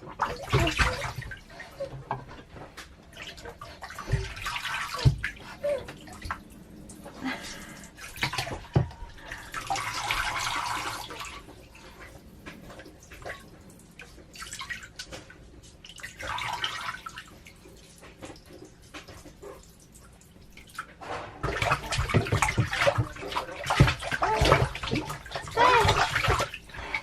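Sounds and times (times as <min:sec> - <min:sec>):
bathwater splashing: 0:00.0 - 0:27.0
water dripping: 0:00.0 - 0:27.0.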